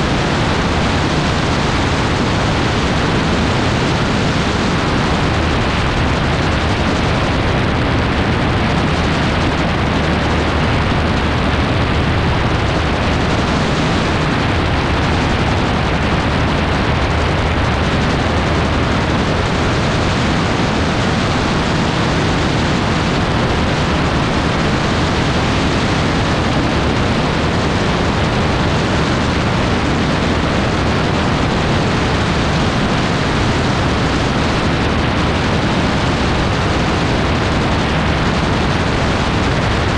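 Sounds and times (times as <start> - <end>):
engine and rotor drone: 0.0 - 39.9
wind buffeting microphone: 0.0 - 39.9.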